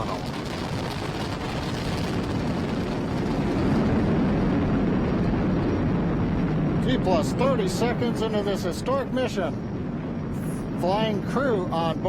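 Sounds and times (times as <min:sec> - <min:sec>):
deep rocket engine rumble: 0:00.0 - 0:12.0.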